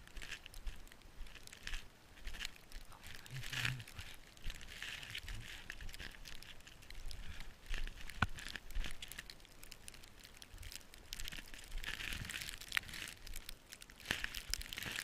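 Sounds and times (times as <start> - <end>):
crunching in deep snow: 0.0 - 15.0.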